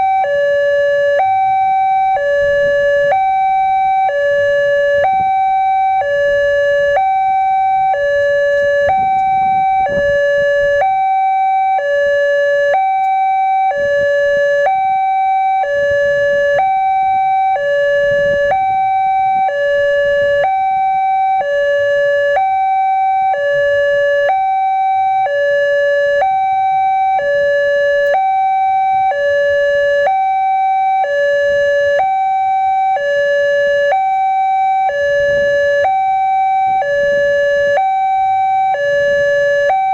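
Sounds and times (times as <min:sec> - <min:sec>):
two-tone level crossing siren: 0:00.0 - 0:39.9.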